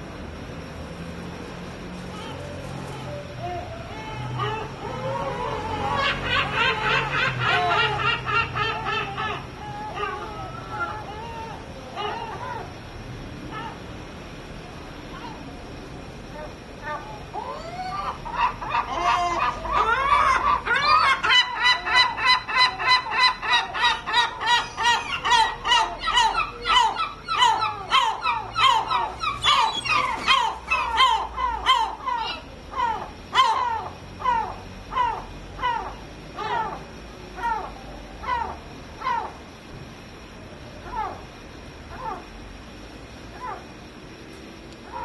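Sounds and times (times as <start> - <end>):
gulls calling: 2.0 - 44.2, 44.8 - 45.0.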